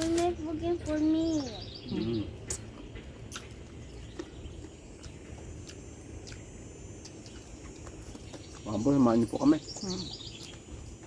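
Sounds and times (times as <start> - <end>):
faint bird chirps: 0.2 - 11.0.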